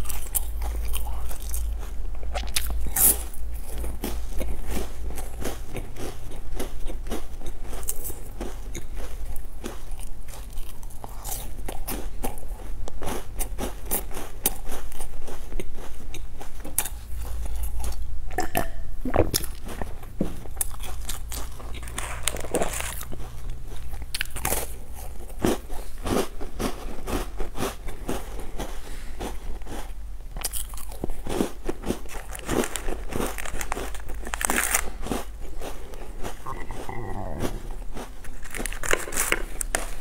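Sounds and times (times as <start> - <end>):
chewing crisp snacks: 0.0 - 40.0.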